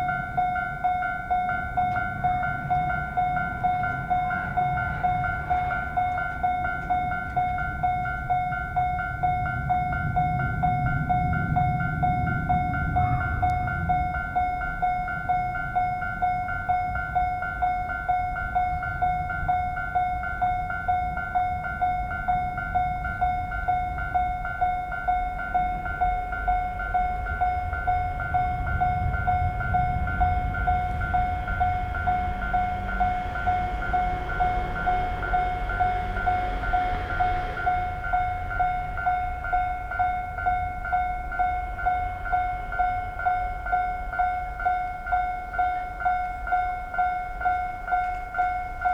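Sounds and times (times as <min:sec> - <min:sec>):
level crossing warning bell: 0:00.0 - 0:48.9
train rumbling past: 0:00.0 - 0:48.9.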